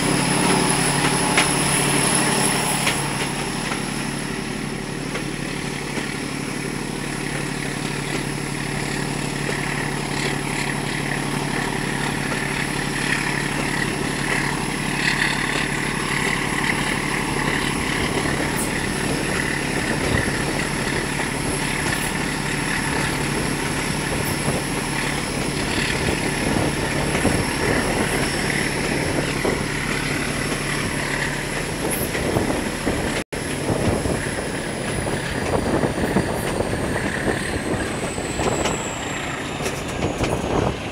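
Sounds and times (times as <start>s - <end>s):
diesel locomotive engine running: 0.0s - 40.9s
train wheels on rails: 0.0s - 40.9s
wind: 0.0s - 40.9s.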